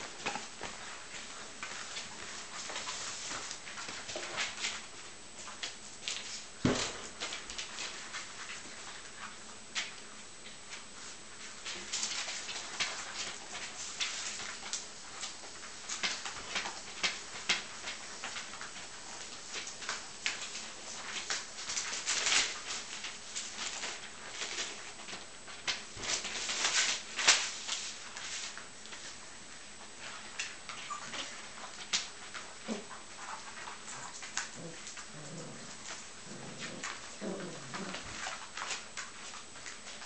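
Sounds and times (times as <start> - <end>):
puppy handling clicks and rustles: 0.0 - 40.0.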